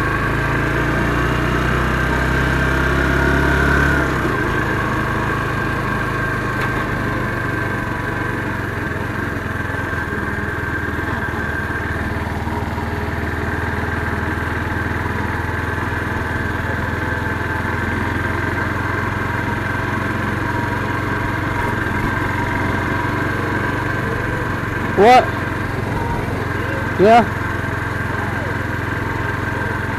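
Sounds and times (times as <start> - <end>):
motorcycle engine cruising: 0.0 - 29.9.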